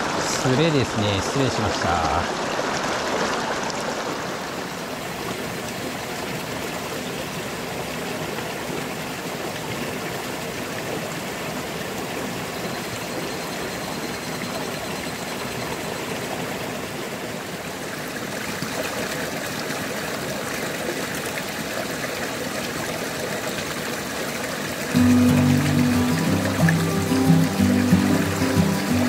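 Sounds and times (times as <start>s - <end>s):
stream running over stones: 0.0s - 29.0s.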